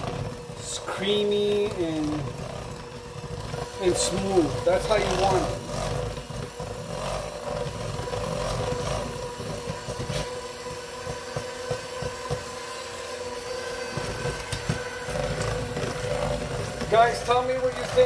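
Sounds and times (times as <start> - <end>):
electric mixer whining: 0.0 - 18.0.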